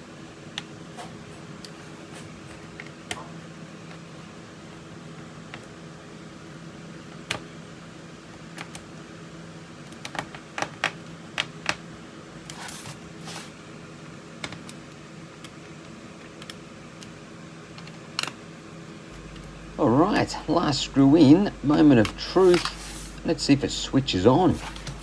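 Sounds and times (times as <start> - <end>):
fan humming: 0.0 - 25.0.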